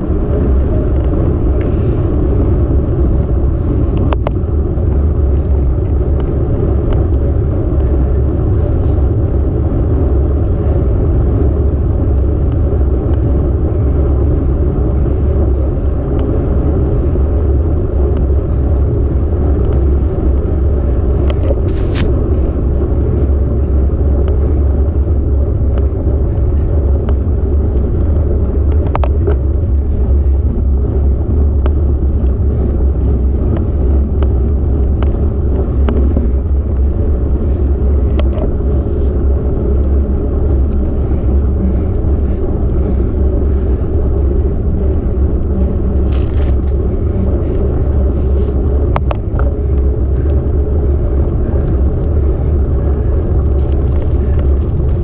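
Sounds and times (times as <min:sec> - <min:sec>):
tyre noise on asphalt: 0:00.0 - 0:55.0
wind buffeting microphone: 0:00.0 - 0:55.0.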